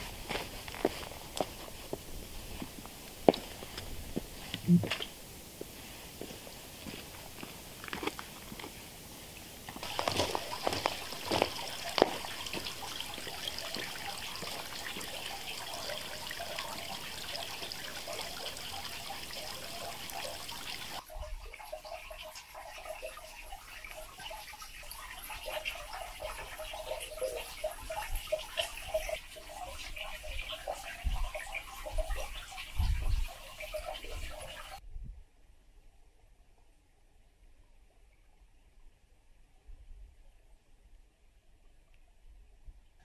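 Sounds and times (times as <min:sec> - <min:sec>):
creek water running: 0:00.0 - 0:34.8.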